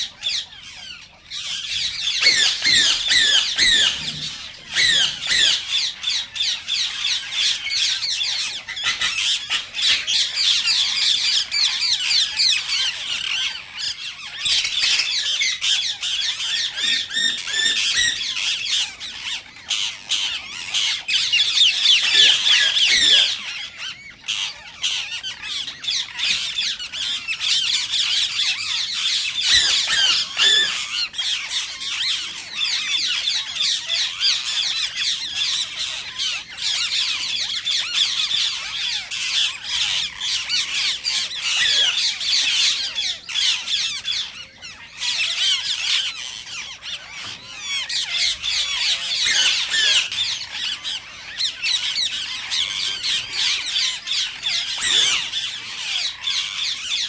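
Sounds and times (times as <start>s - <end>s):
parakeets squawking and chattering: 0.0s - 57.0s.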